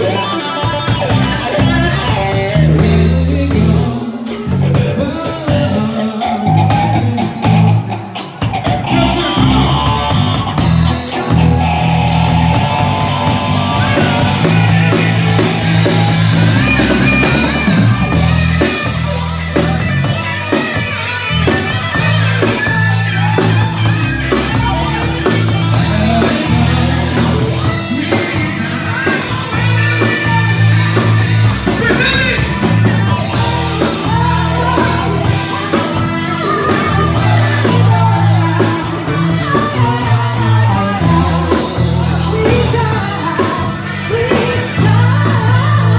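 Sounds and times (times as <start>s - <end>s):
live rock band playing: 0.0s - 45.9s
person singing: 0.0s - 45.9s.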